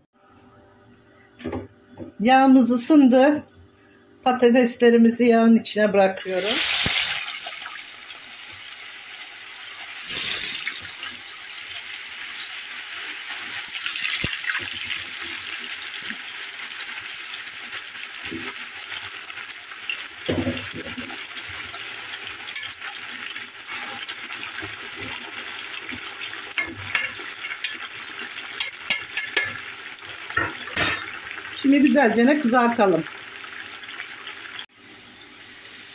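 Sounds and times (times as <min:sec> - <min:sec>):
potatoes sizzling in hot oil: 0:06.2 - 0:35.9.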